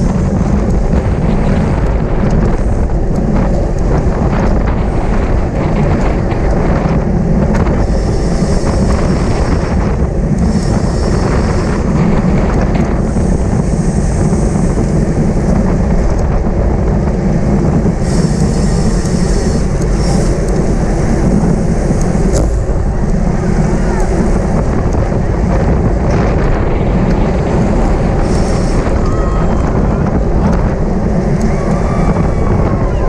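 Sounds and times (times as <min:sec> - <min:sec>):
tyre and road noise: 0:00.0 - 0:33.0
wind rushing over microphone: 0:00.0 - 0:33.0.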